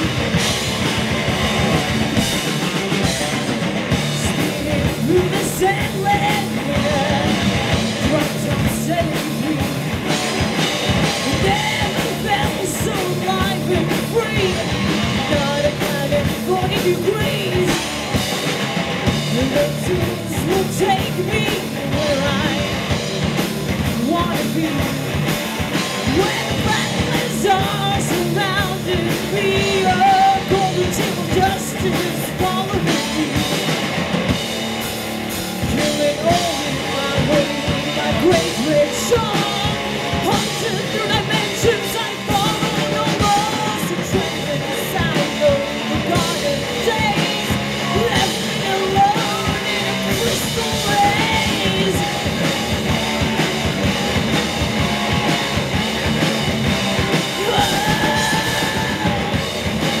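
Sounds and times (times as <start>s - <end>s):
drum kit: 0.0s - 60.0s
live rock band playing: 0.0s - 60.0s
person singing: 2.8s - 10.3s, 11.1s - 17.9s, 19.2s - 22.9s, 23.8s - 33.7s, 35.6s - 53.0s, 57.1s - 60.0s.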